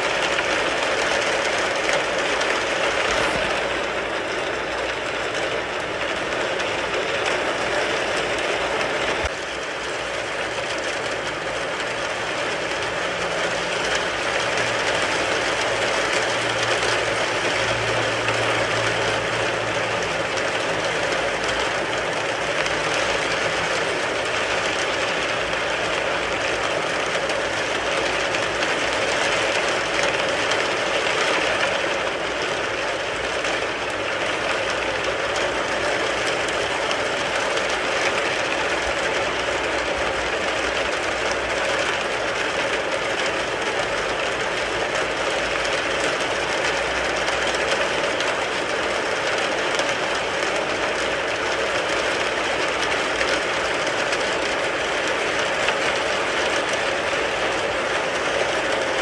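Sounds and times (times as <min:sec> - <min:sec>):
rain falling on a car: 0:00.0 - 0:59.0.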